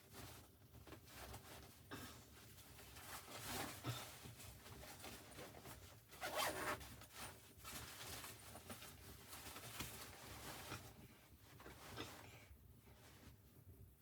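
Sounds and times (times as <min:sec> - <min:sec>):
clothing rustling: 0:00.0 - 0:13.5.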